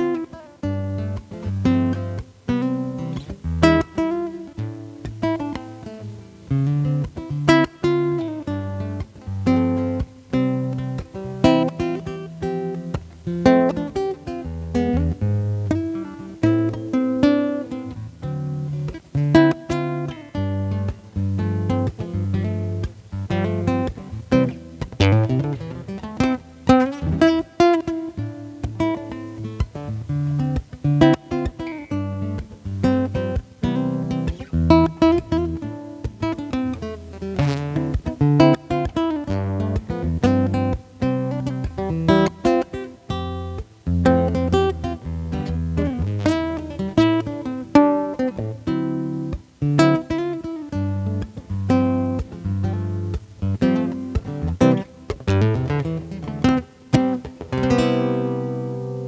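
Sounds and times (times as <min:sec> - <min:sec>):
acoustic guitar plucked chords: 0:00.0 - 0:59.0.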